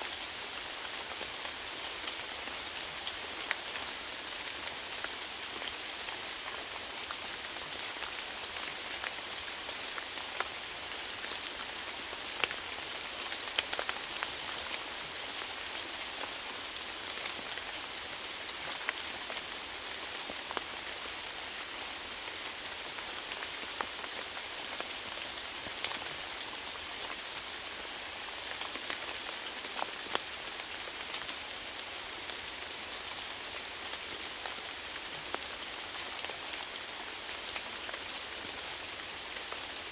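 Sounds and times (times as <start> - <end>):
rain hiss: 0.0 - 39.9
raindrops hitting a surface: 0.0 - 39.9.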